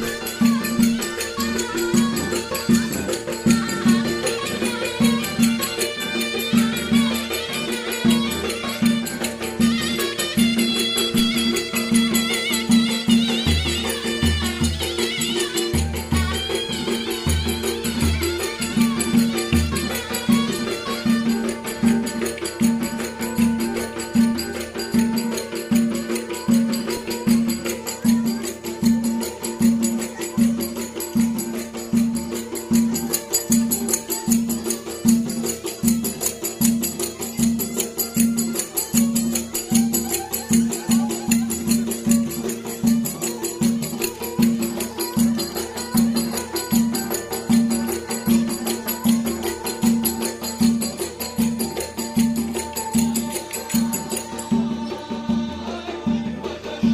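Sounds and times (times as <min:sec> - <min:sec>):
drum beating: 0:00.0 - 0:56.9
folk instrument melody: 0:00.0 - 0:56.9.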